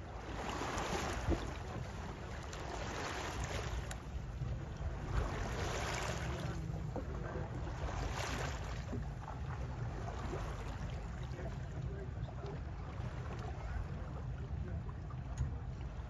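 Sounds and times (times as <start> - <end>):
water splashing against boat hull: 0.0 - 16.0
wind rumble on microphone: 0.0 - 16.0.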